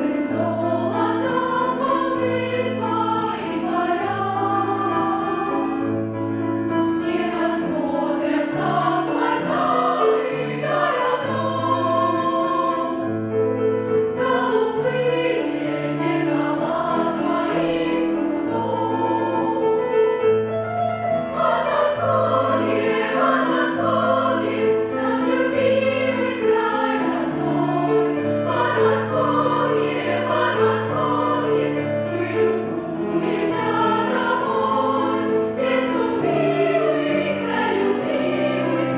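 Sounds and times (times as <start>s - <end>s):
children's choir singing: 0.0s - 5.8s, 6.8s - 13.2s, 14.0s - 20.0s, 21.2s - 38.9s.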